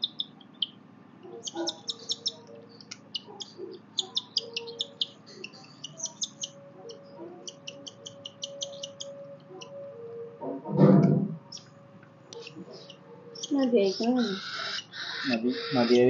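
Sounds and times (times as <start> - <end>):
cockatiel chick raspy chirps: 0.0 - 9.7, 12.3 - 16.0.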